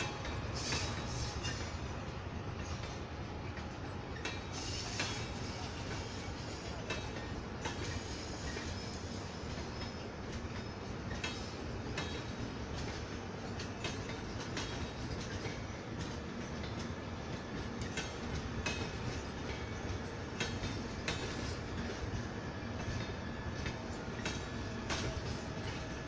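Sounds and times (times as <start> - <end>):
train coaches rumbling past: 0.0 - 26.0.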